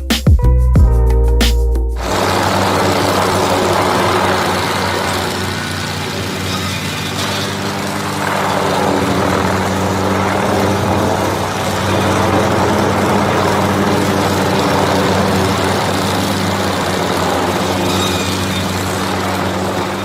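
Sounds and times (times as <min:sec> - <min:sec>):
aircraft engine drone: 0:02.0 - 0:20.0
even rushing noise: 0:02.0 - 0:20.0.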